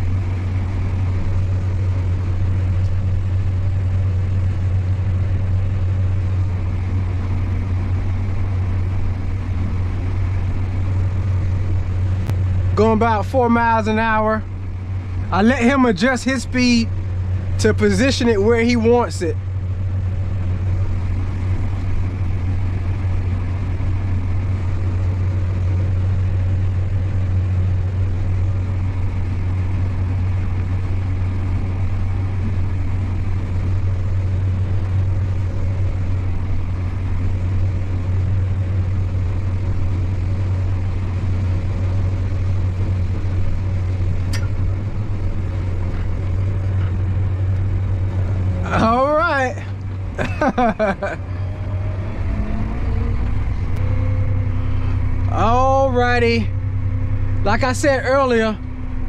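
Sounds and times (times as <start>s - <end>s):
combine harvester low drone: 0.0s - 59.0s.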